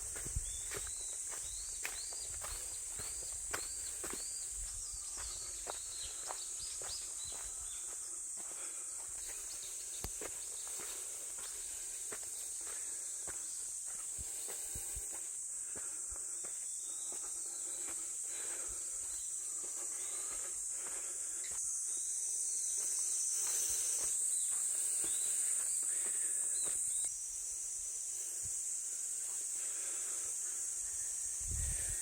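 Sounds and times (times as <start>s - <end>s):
footsteps in undergrowth: 0.0s - 21.7s, 22.5s - 27.1s
high-pitched insect chorus: 0.0s - 32.0s.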